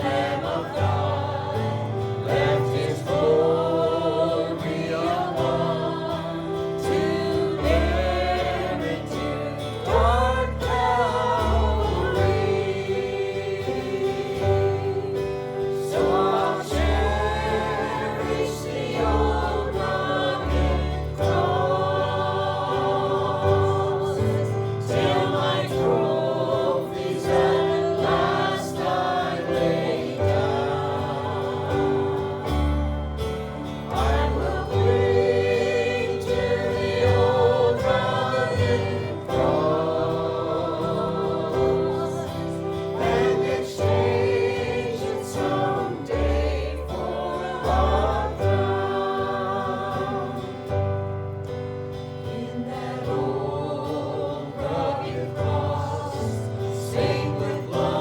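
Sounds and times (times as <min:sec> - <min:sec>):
group singing a gospel hymn: 0:00.0 - 0:58.0.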